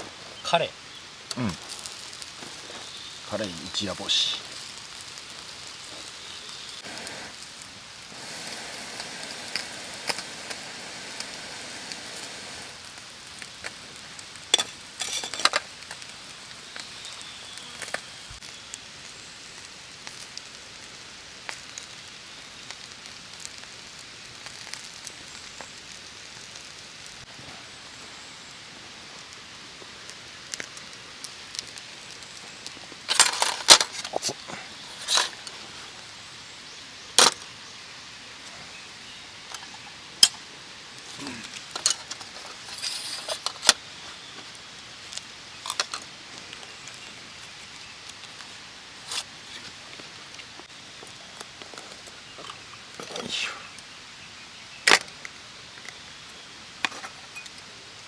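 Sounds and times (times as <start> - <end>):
campfire crackling and popping: 0.0 - 58.0
fish sizzling over fire: 0.0 - 58.0.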